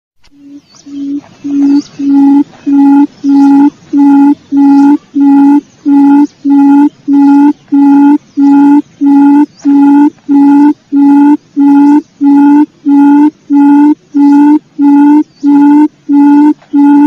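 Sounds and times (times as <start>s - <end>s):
recorded quail call hooting: 0.2s - 17.0s.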